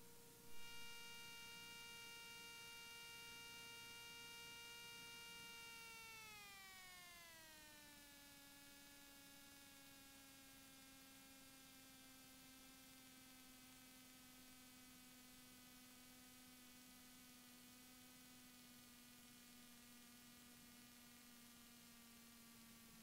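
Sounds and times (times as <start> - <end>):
faint electrical whine: 0.0 - 23.0.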